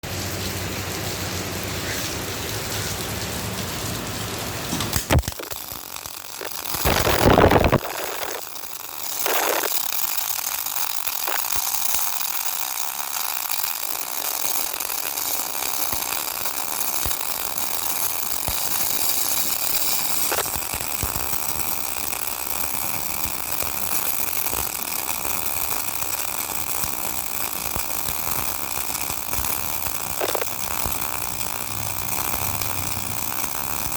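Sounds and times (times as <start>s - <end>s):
welding arc sizzling: 0.0s - 33.9s.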